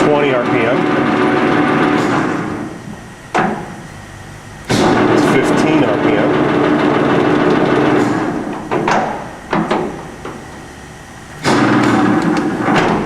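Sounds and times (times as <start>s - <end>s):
grinder table drive humming: 0.0s - 13.0s.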